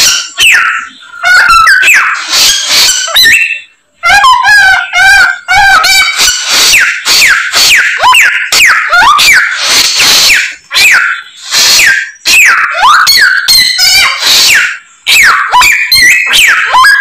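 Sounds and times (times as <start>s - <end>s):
bird harsh rasping calls: 0.0s - 17.0s
songbird whistling song: 0.0s - 17.0s.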